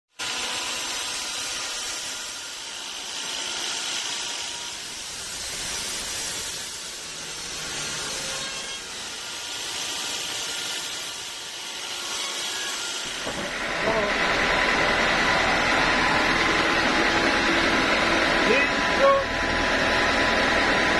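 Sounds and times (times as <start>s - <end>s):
sawmill machine running: 0.1s - 20.9s
band saw rasping through wood: 0.2s - 20.9s.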